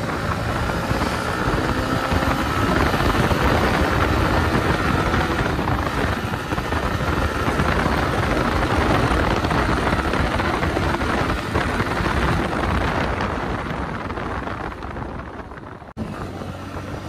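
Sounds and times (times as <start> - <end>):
motorcycle engine: 0.0 - 17.0
wind rushing over microphone: 0.0 - 17.0.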